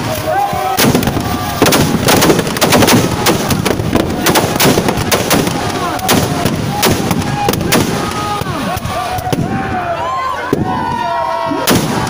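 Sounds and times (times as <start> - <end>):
firecrackers banging: 0.0 - 9.8, 11.7 - 12.0.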